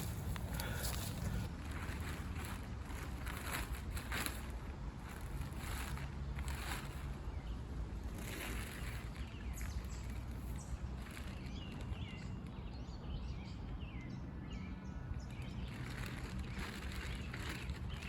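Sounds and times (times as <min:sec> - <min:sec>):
distant road traffic rumble: 0:00.0 - 0:18.0
small birds chirping: 0:00.0 - 0:18.0.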